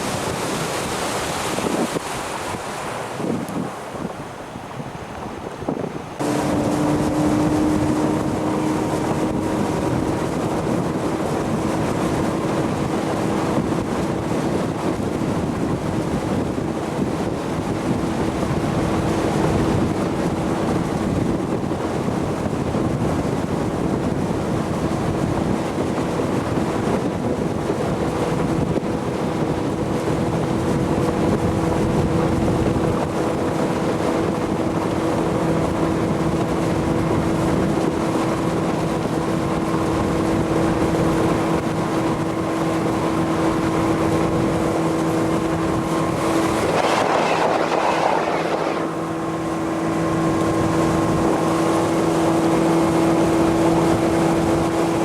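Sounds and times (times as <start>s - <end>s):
motorboat engine running: 0.0s - 55.0s
wind noise on microphone: 0.0s - 55.0s.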